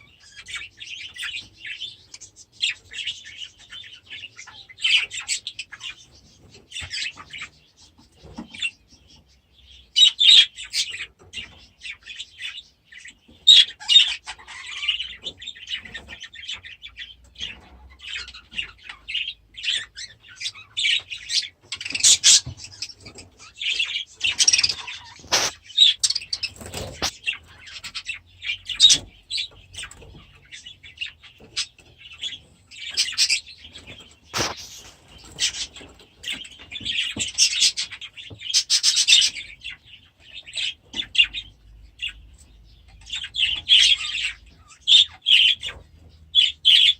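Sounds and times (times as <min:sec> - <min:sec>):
small birds chirping and chattering: 0:00.0 - 0:46.9.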